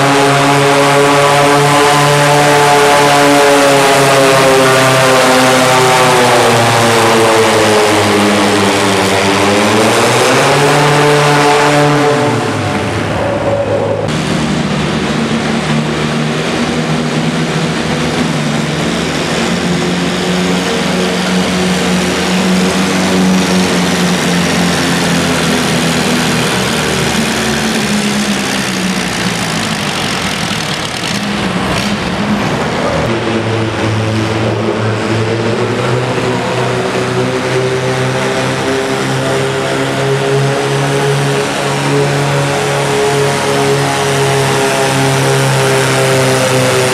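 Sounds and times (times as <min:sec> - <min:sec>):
tractor engine running loudly: 0:00.0 - 0:46.9.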